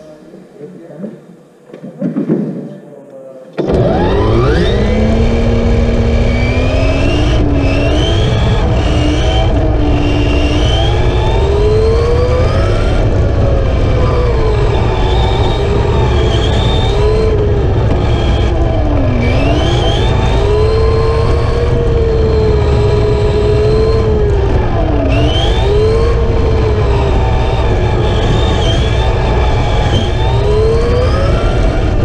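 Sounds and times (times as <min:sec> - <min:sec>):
rc car motor whine: 0:03.6 - 0:32.0.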